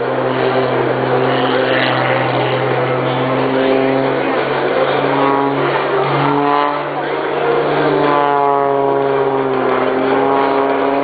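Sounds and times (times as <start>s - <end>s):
propeller plane engine: 0.0s - 11.0s.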